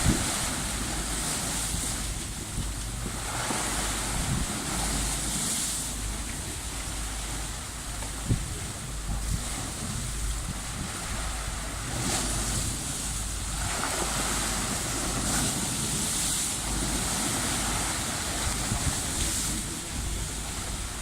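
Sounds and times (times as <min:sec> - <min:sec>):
sea waves washing in: 0:00.0 - 0:21.0
wind buffeting microphone: 0:00.0 - 0:21.0.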